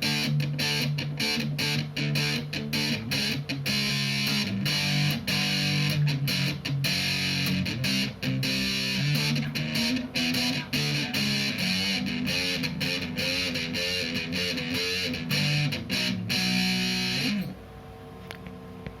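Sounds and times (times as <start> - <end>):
electric guitar picked notes: 0.0 - 17.6
faint hum and hiss: 0.0 - 19.0.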